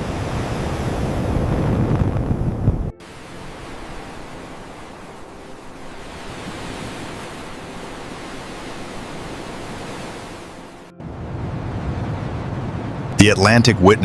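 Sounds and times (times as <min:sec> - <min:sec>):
ocean waves: 0:00.0 - 0:14.0
wind: 0:00.0 - 0:14.0.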